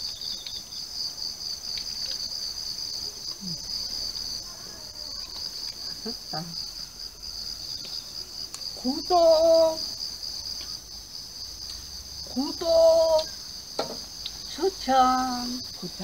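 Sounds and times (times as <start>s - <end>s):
insects chirring with fast pulsing: 0.0s - 16.0s.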